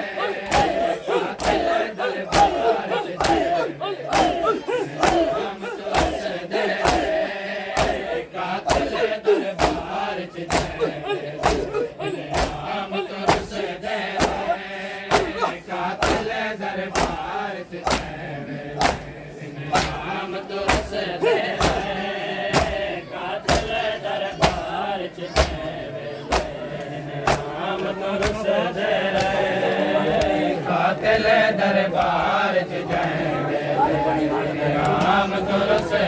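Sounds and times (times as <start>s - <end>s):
men chanting in unison: 0.0s - 36.0s.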